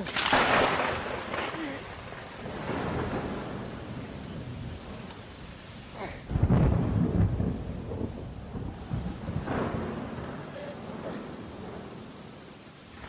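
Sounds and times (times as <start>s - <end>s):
deep thunderclap rumble: 0.0s - 13.0s
rain hiss: 0.0s - 13.0s
rolling thunder: 0.0s - 13.0s.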